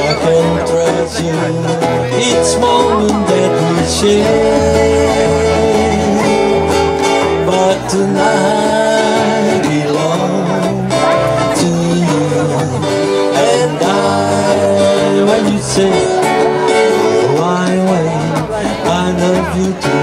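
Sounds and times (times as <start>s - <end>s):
low bass notes: 0.0s - 20.0s
person singing: 0.0s - 20.0s
strummed acoustic guitars: 0.0s - 20.0s.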